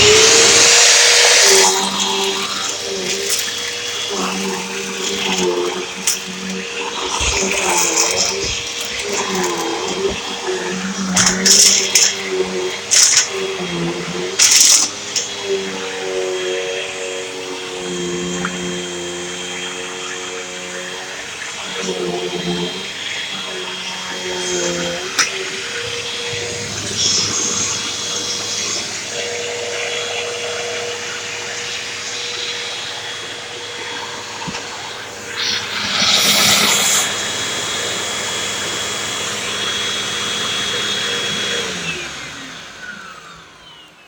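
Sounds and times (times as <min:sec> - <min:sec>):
vacuum cleaner running on carpet: 0:00.0 - 0:44.0
vacuum motor winding down: 0:00.0 - 0:44.0.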